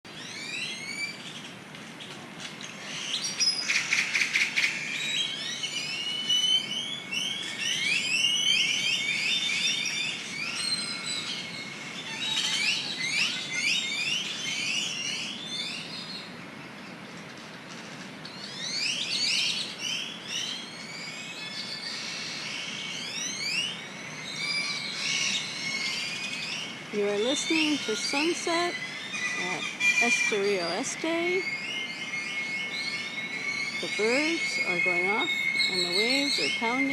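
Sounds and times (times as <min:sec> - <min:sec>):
chorus of birds calling: 0:02.6 - 0:17.0, 0:18.3 - 0:36.9.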